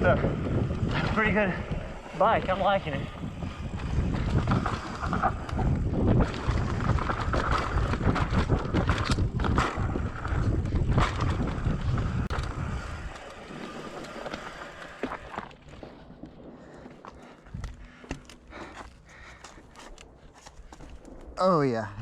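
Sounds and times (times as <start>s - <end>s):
wind rushing over microphone: 0.0s - 18.1s
bike rattling: 0.0s - 21.7s
tyres on dirt and rock: 0.0s - 21.7s.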